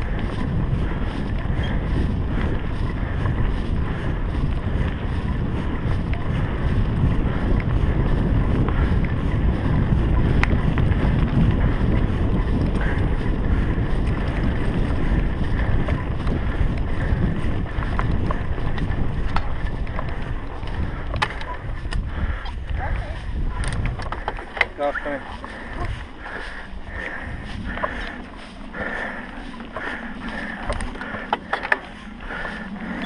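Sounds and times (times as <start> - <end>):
faint bike clicks: 0.0 - 33.0
tyres on rough ground: 0.0 - 33.0
wind rumble on microphone: 0.0 - 33.0.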